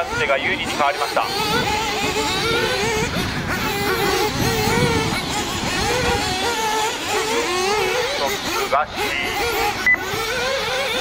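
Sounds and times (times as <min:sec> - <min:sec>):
rc buggy engines whining: 0:00.0 - 0:11.0.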